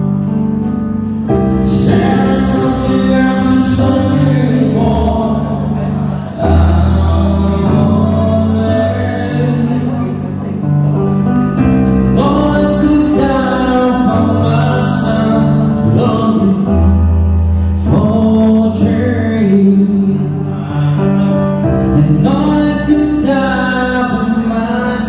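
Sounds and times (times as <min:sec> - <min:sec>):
long held bass notes: 0:00.0 - 0:25.0
person singing: 0:01.2 - 0:25.0.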